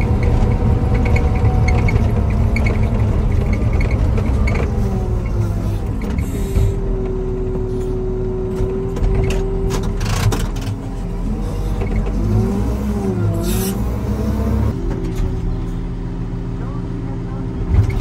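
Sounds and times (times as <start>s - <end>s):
diesel engine and hydraulics running: 0.0s - 18.0s.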